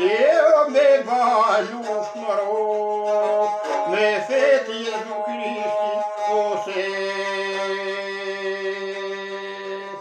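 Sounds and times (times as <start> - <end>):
bowed single-string fiddle: 0.0 - 10.0
man chant-like singing: 0.0 - 10.0.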